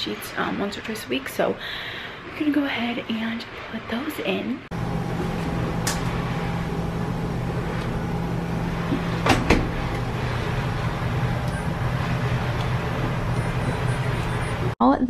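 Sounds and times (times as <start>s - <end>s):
washing machine hum: 0.0s - 14.8s.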